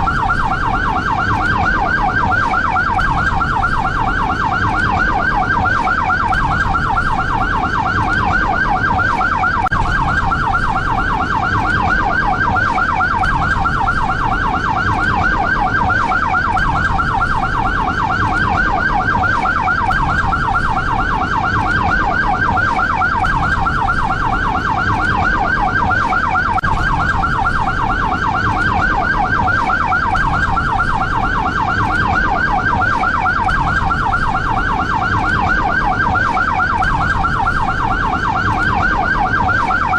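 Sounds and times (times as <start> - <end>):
ambulance siren yelp: 0.0 - 39.9.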